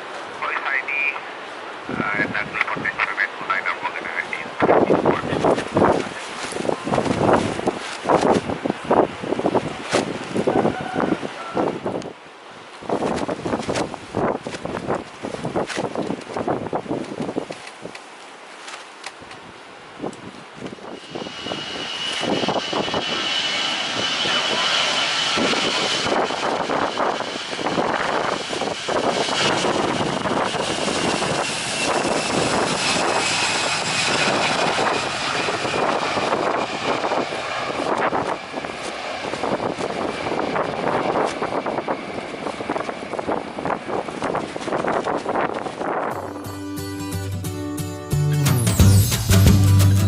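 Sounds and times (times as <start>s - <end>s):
jet engines of passing airliner: 0.0s - 17.8s, 19.6s - 46.2s.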